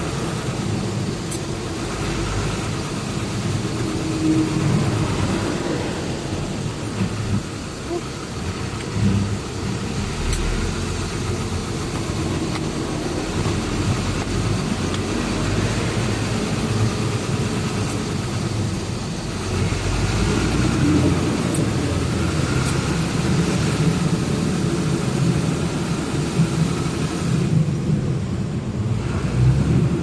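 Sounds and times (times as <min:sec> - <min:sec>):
road noise: 0:00.0 - 0:30.0
truck engine running: 0:00.0 - 0:30.0.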